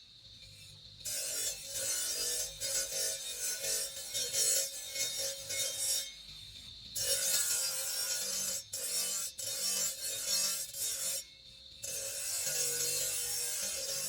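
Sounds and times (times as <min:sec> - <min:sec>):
file scraping marble: 0:00.4 - 0:06.2, 0:07.0 - 0:14.0.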